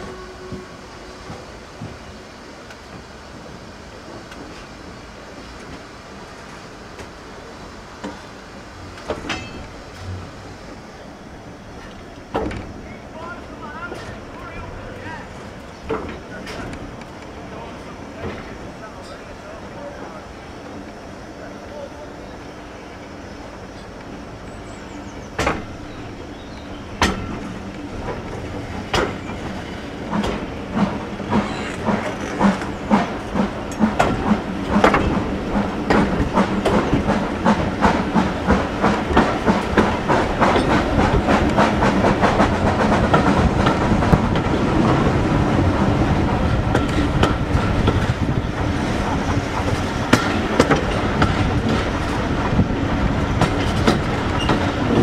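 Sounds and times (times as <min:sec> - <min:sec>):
steam locomotive beats: 0:00.0 - 0:19.4, 0:23.4 - 0:55.0
train running clatter: 0:00.0 - 0:21.0, 0:23.6 - 0:55.0.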